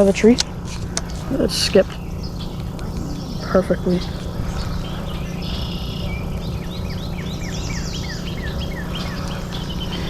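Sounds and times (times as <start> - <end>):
bird chirping: 0.0 - 10.0
low outdoor hum: 0.0 - 10.0.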